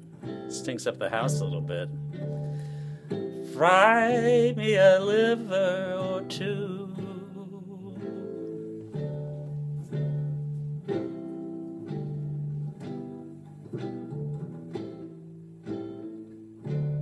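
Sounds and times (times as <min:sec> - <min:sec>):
acoustic guitar plucked chords: 0:00.0 - 0:17.0.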